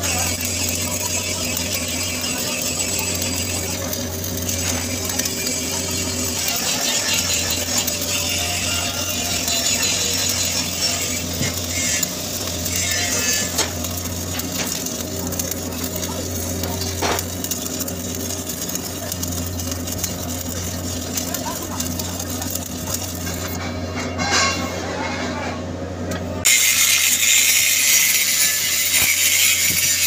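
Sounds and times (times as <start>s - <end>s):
welding arc crackling: 0.0s - 23.7s, 26.4s - 30.0s.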